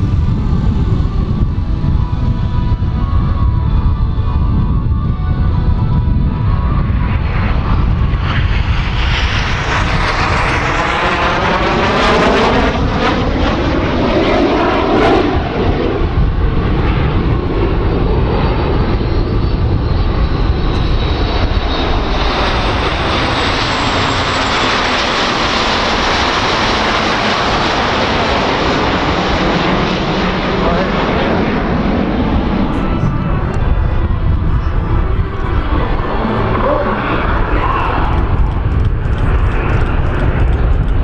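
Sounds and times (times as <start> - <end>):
jet aircraft roaring past: 0.0 - 41.0.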